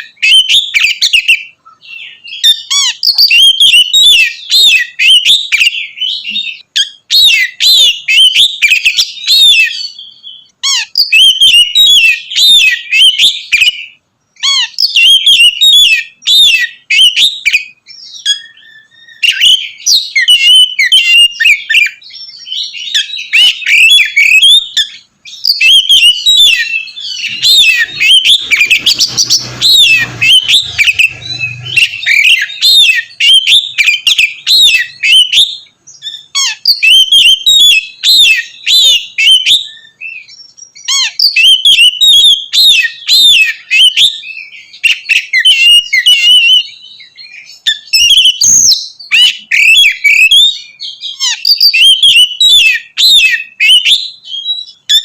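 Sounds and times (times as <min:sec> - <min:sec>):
songbird singing whistled notes: 0:00.0 - 0:55.0.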